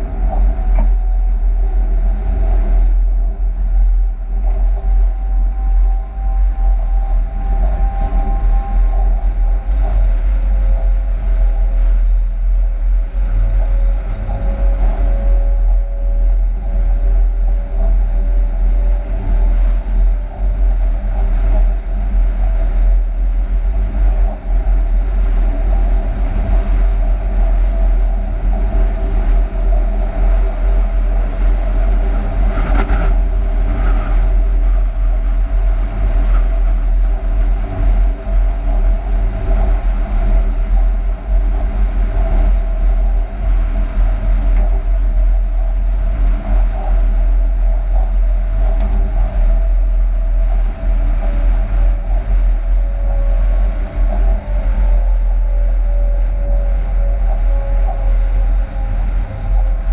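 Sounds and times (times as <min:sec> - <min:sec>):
locomotive low rumble: 0:00.0 - 0:59.9
whine of traction electrics: 0:00.0 - 0:59.9.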